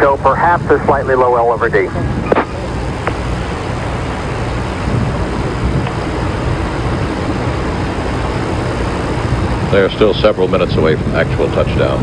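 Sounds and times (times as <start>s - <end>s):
aircraft engine rumble: 0.0s - 12.0s
wind noise: 0.0s - 12.0s.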